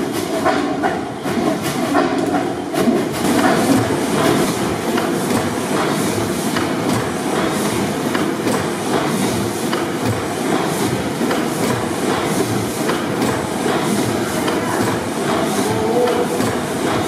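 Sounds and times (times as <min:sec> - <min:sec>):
gas engine clattering: 0:00.2 - 0:17.0.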